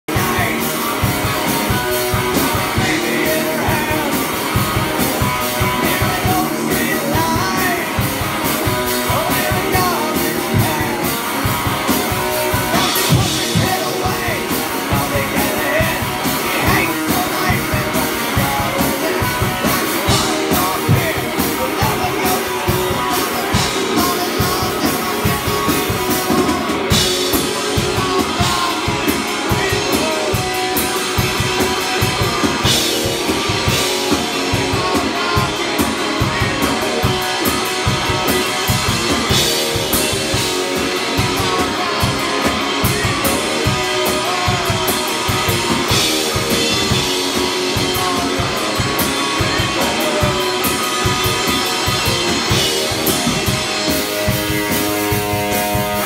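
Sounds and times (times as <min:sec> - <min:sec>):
drum kit beat: 0:00.0 - 0:56.0
electric guitar: 0:00.0 - 0:56.0.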